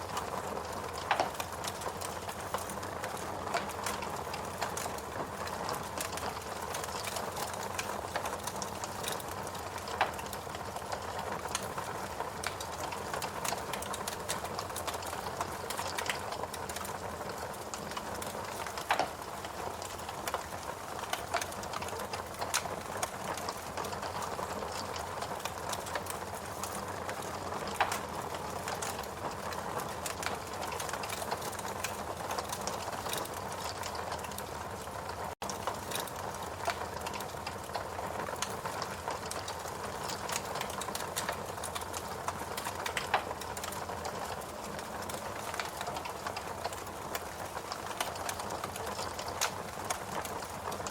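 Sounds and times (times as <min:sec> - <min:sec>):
fireplace crackling: 0:00.0 - 0:50.9.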